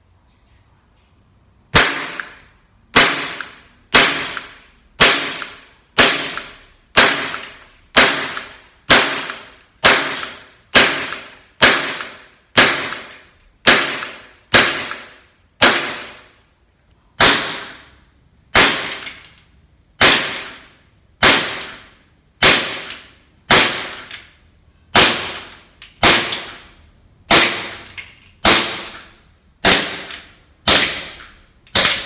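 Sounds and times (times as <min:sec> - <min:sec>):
airsoft pistol shots: 0:01.7 - 0:16.3, 0:17.2 - 0:19.2, 0:20.0 - 0:20.6, 0:21.2 - 0:24.1, 0:24.9 - 0:26.7, 0:27.3 - 0:32.0.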